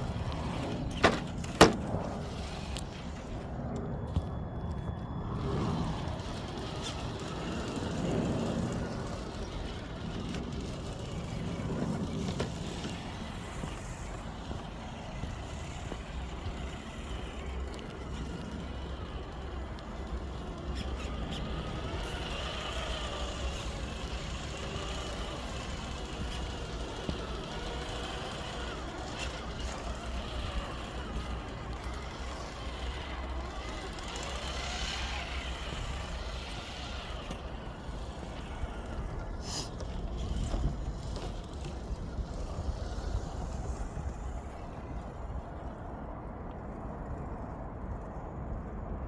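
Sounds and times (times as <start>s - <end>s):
highway traffic rumble: 0.0s - 49.0s
vehicles passing: 0.0s - 49.0s.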